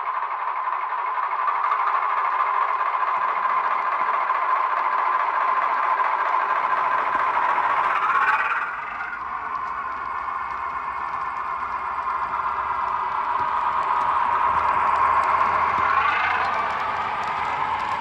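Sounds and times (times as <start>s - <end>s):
diesel engine sound from small speaker: 0.0s - 18.0s.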